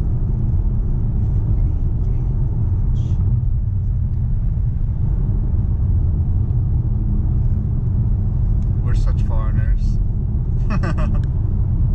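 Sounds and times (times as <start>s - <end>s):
car road and engine rumble: 0.0s - 11.9s.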